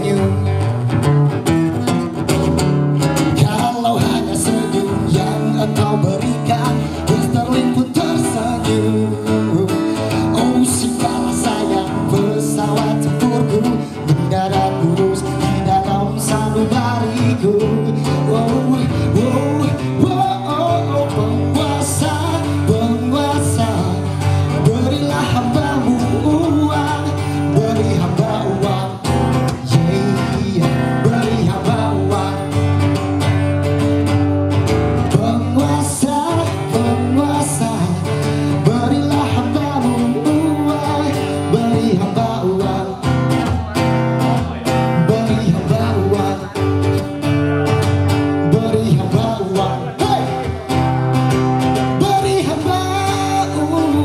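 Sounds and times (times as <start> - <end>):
person singing: 0.0 - 0.9, 3.3 - 33.2, 35.0 - 47.3, 48.2 - 54.0
acoustic guitar: 0.0 - 54.0
steady bass notes: 0.0 - 54.0.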